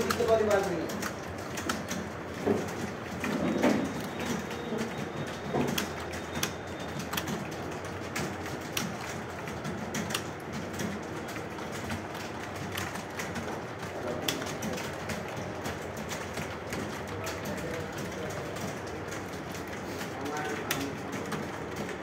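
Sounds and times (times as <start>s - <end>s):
computer keyboards clicking: 0.0s - 22.0s.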